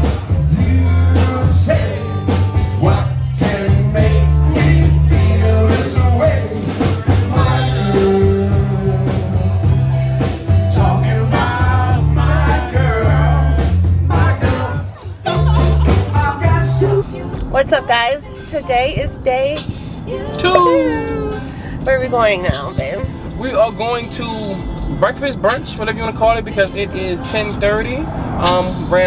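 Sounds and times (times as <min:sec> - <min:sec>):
hip-hop music with vocal: 0:00.0 - 0:29.0.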